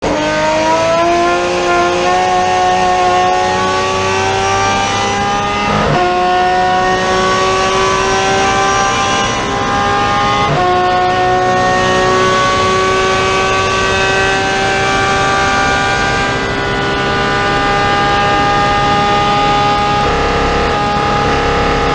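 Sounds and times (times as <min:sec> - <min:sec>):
race car engine at full throttle: 0:00.0 - 0:21.9.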